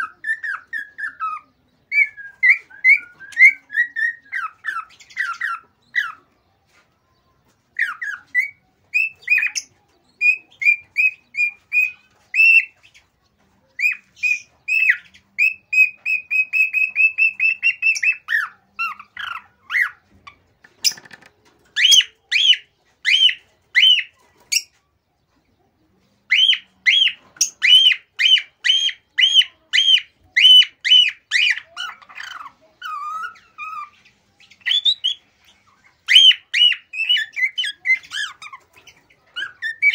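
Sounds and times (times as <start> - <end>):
cockatiel whistling song: 0.0 - 6.2, 7.8 - 12.8, 13.8 - 20.0, 21.8 - 24.7, 26.3 - 35.2, 36.0 - 38.6, 39.4 - 39.9.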